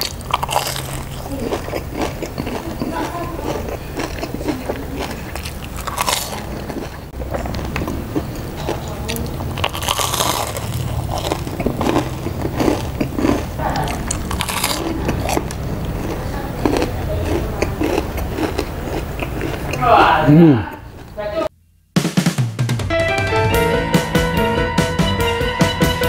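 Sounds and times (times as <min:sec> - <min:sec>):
crunchy chewing of fried food: 0:00.0 - 0:21.2.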